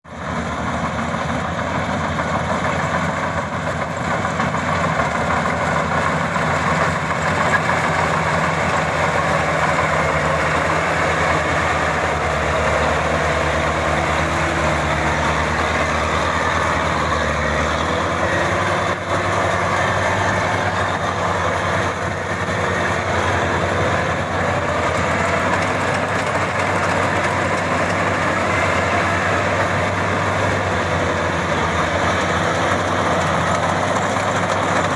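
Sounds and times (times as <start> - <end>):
combine harvester engine running: 0.1 - 34.9.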